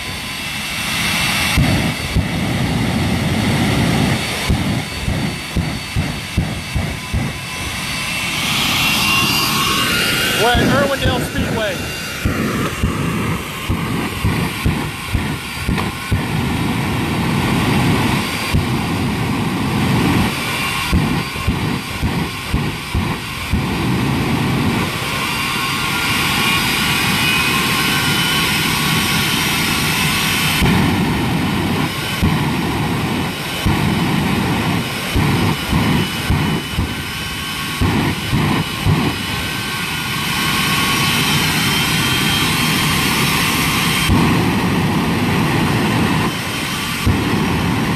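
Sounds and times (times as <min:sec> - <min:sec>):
heavy exhaust rush: 0:00.0 - 0:47.9
jet engine turbine whine: 0:00.0 - 0:47.9.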